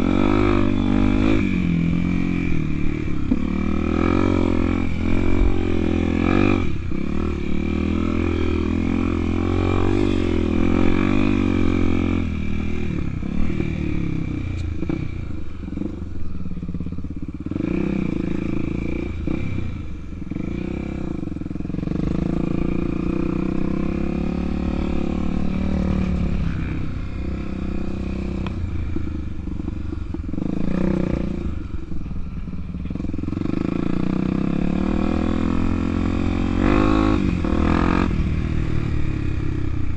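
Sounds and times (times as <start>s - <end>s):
motorcycle engine revving: 0.0s - 39.9s
motorcycle rattling over rough ground: 0.0s - 39.9s.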